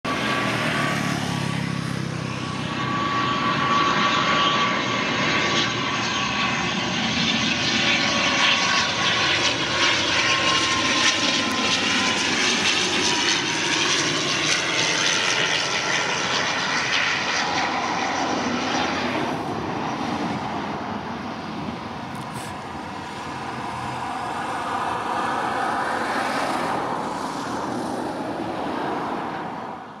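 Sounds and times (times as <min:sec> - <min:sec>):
turboprop airliner drone: 0:00.0 - 0:30.0.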